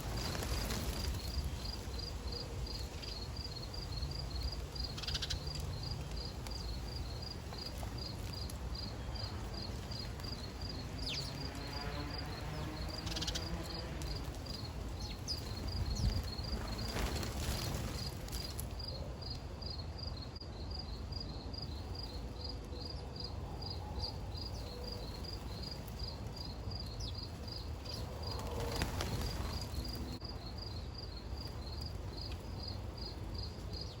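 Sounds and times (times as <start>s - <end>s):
insect chirping: 0.0s - 34.0s
low outdoor background hum: 0.0s - 34.0s.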